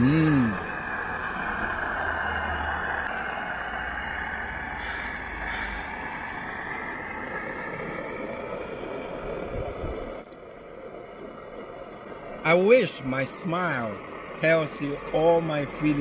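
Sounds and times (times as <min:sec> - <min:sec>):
camp stove burner roaring: 0:00.0 - 0:16.0.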